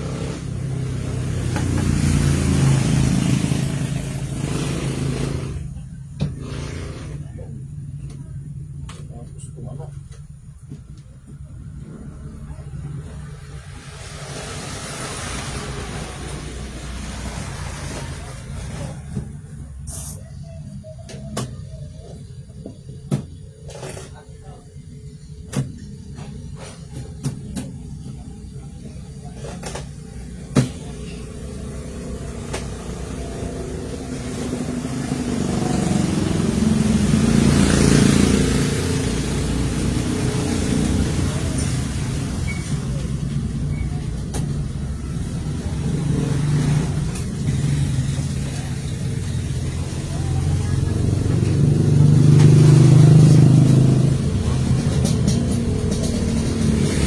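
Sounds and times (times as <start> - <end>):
low engine-like rumble: 0.0 - 57.0.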